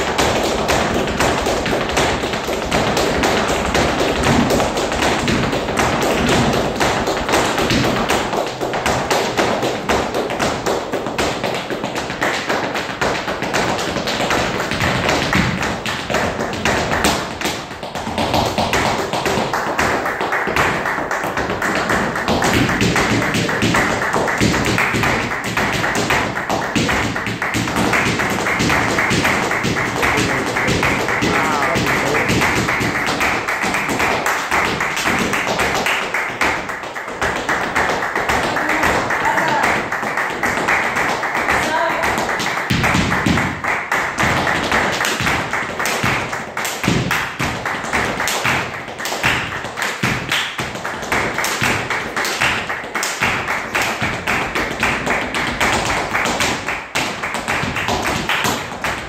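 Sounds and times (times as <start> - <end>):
hand-clapping: 0.0 - 59.0
shoes stamping on stage floor: 0.0 - 59.0.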